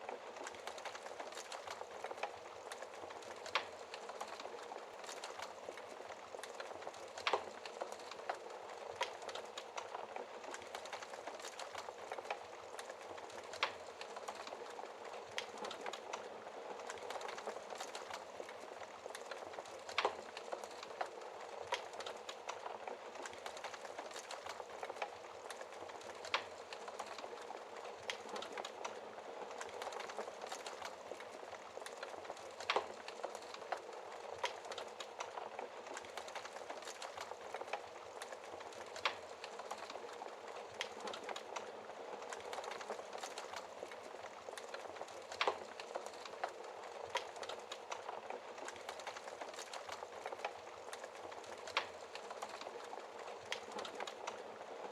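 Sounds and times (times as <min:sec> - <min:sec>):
fire crackling in fireplace: 0:00.0 - 0:54.9.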